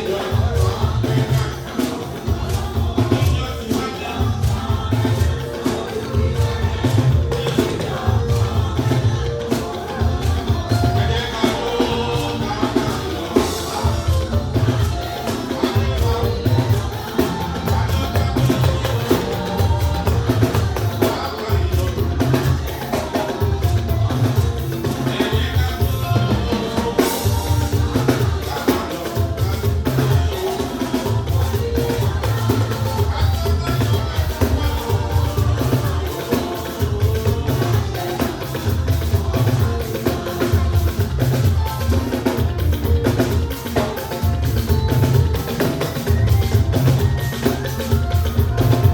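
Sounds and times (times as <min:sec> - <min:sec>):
drum kit: 0:00.0 - 0:48.9
gospel band music: 0:00.0 - 0:48.9
singing: 0:00.0 - 0:48.9.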